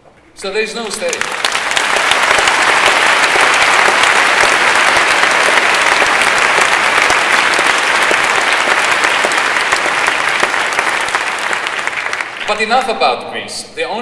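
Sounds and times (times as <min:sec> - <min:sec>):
audience applauding: 0:00.8 - 0:12.9.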